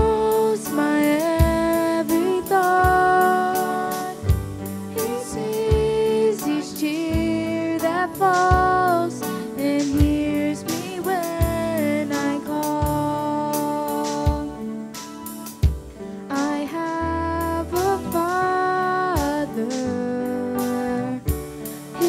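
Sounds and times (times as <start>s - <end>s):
person singing with vibrato: 0.0s - 14.9s, 16.2s - 22.0s
instrumental backing with steady beat: 0.0s - 22.0s.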